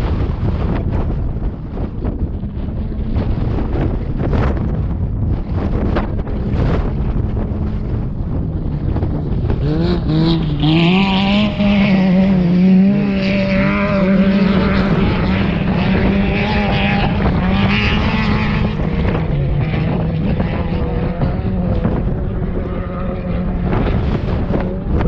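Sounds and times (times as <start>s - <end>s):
race vehicle engine running hard: 0.0s - 25.0s
wind noise on microphone: 0.0s - 25.0s.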